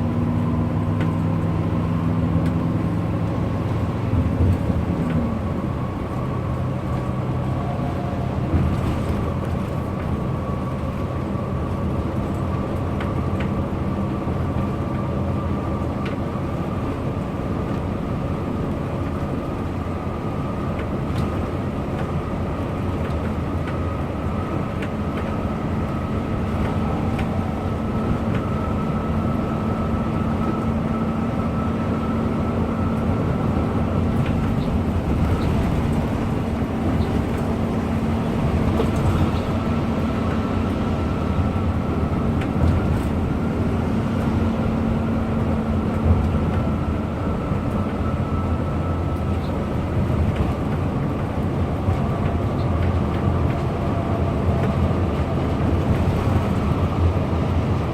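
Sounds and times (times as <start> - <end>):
bus engine drone: 0.0 - 57.9
road and tyre noise: 0.0 - 57.9.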